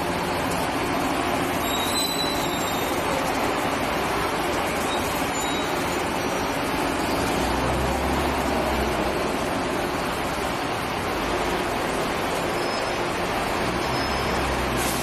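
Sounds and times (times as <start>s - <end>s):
bus diesel engines: 0.0s - 15.0s.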